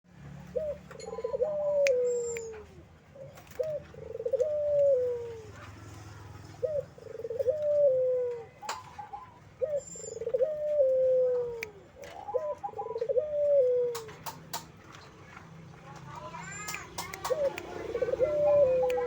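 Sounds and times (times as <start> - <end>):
dove cooing: 0.4 - 14.7, 16.4 - 19.0.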